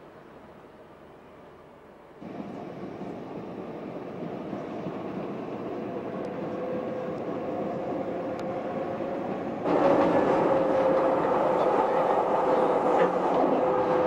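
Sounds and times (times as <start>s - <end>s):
train rumbling: 2.0s - 14.0s.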